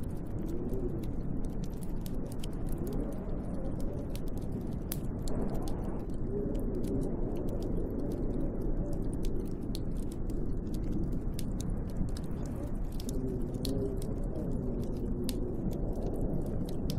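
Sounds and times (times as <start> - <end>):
faint sharp clicks and ticks: 0.0 - 16.9
wind howling: 0.0 - 16.9.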